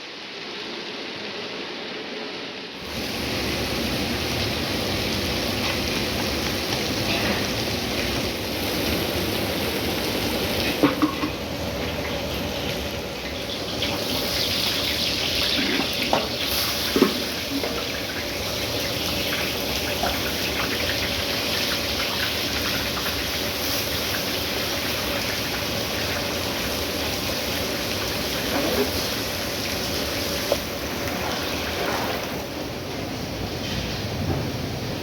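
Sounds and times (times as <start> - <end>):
food sizzling in a pot: 0.0 - 34.2.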